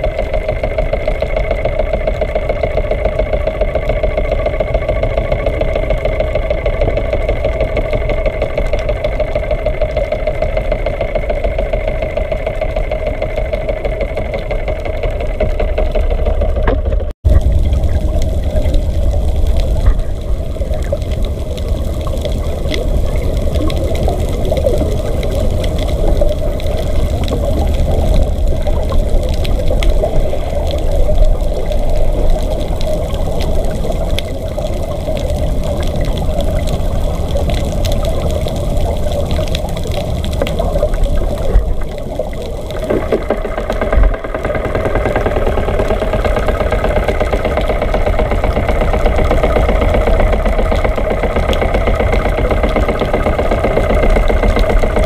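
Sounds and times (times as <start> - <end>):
boat engine hum underwater: 0.0 - 55.0
low rumble of water: 0.0 - 55.0.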